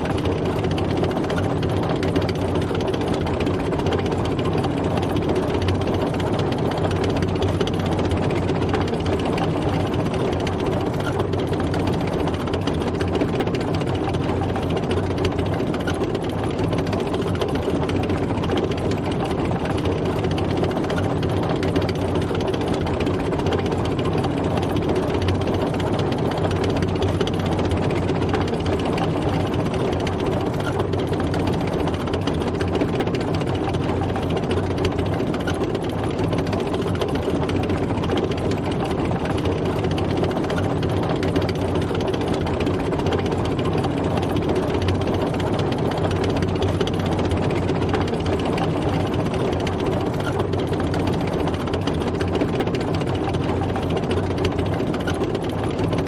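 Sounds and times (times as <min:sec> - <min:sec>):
tank engine running: 0:00.0 - 0:56.0.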